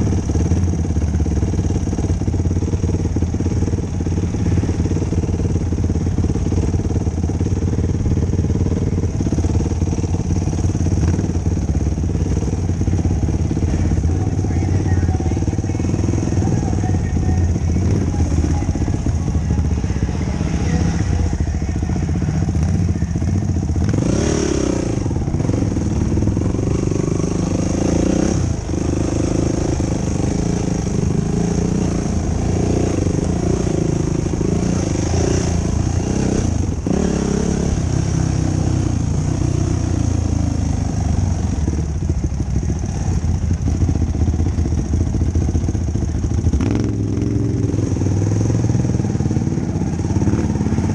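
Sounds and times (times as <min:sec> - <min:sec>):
quad engine revving: 0:00.0 - 0:50.9.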